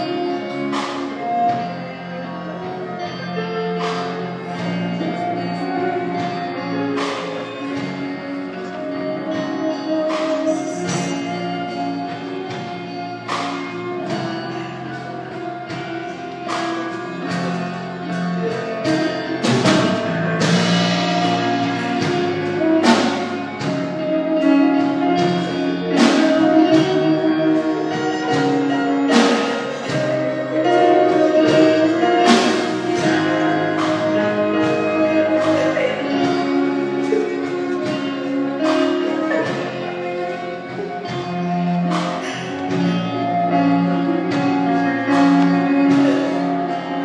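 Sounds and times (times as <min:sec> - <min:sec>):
orchestral sustained chords: 0:00.0 - 0:47.0.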